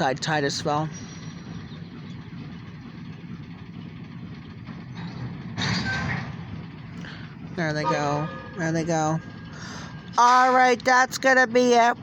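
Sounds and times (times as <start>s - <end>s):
distant locomotives rumbling: 0.0s - 12.0s.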